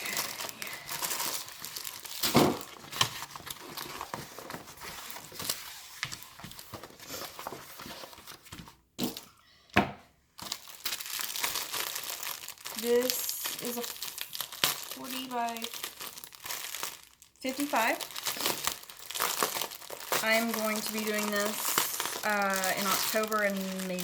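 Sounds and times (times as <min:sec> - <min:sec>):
packaging crinkling: 0:00.0 - 0:09.3, 0:10.4 - 0:24.0.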